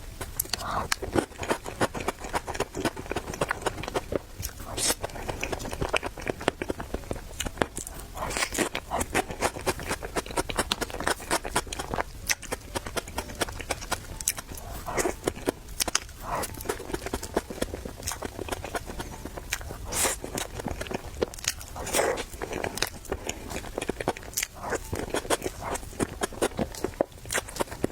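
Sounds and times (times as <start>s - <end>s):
wet chewing and mouth clicks: 0.0s - 27.9s.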